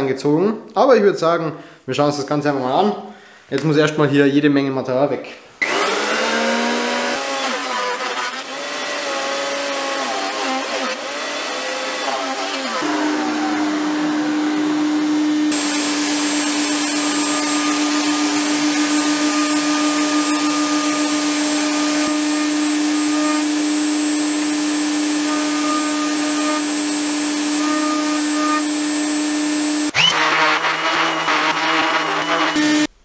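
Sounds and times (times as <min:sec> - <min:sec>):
dust extraction: 0:05.6 - 0:32.9
orbit sander running: 0:05.6 - 0:32.9
power tool motor whine: 0:05.6 - 0:32.9.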